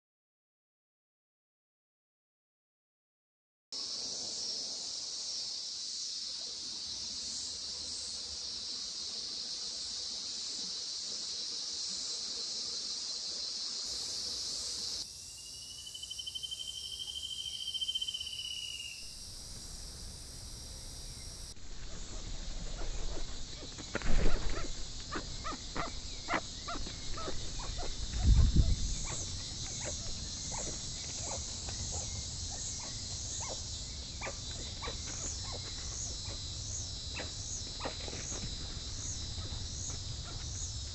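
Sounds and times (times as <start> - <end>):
high insect chorus: 3.8 - 40.9.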